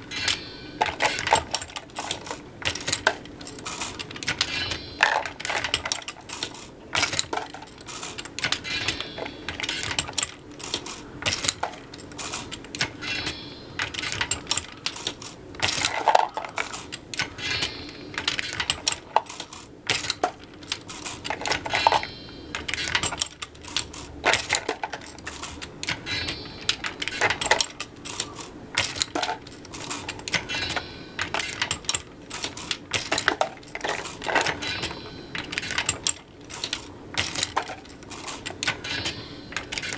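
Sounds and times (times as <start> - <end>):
brass cases clinking: 0.0 - 39.9
reloading press clanking and clicking: 0.0 - 39.9.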